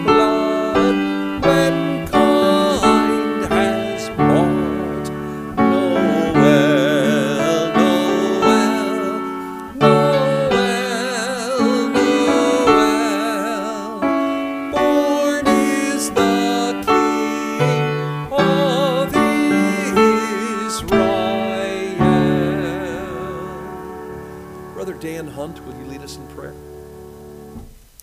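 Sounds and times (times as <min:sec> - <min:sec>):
voices singing a hymn: 0:00.0 - 0:26.6
piano chords: 0:00.0 - 0:27.9.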